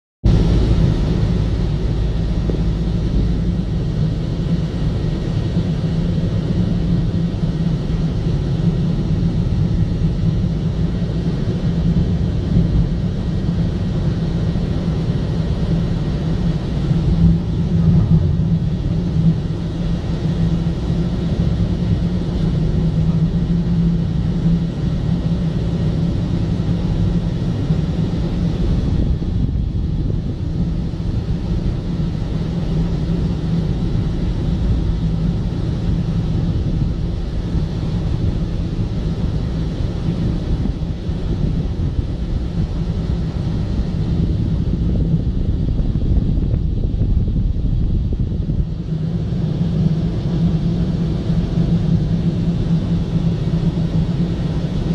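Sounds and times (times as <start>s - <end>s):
car engine and tyre rumble: 0.2s - 54.9s.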